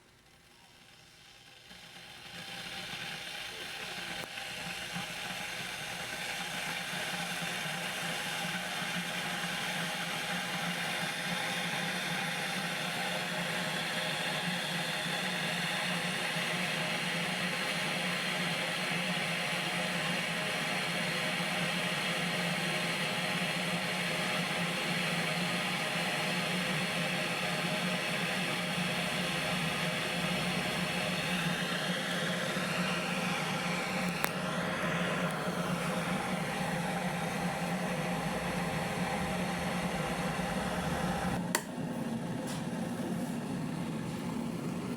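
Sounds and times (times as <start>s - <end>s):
electric kettle heating water: 0.0s - 44.9s.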